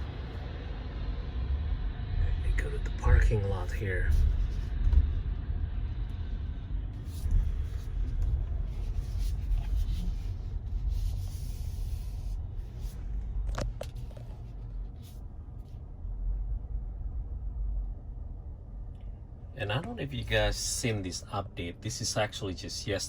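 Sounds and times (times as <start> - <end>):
road and tyre rumble in car cabin: 0.0 - 23.0.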